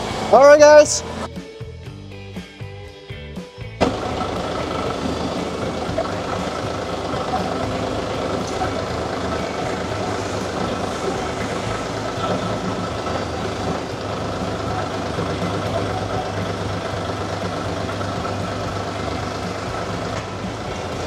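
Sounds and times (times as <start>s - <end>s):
small engine humming: 0.0s - 1.3s, 3.8s - 21.0s.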